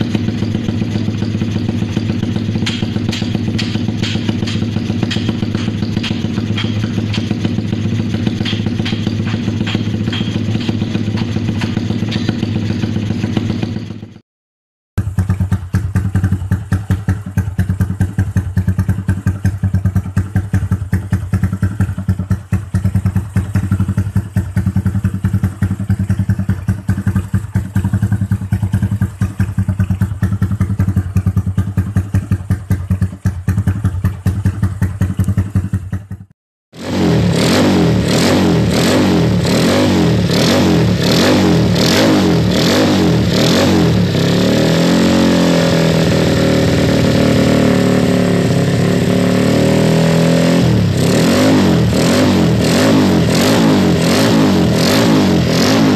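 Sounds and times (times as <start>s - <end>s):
engine revving in blips: 0.0s - 14.2s, 20.5s - 55.9s
motorcycle engine rattly pulse: 0.0s - 14.2s, 15.0s - 55.9s.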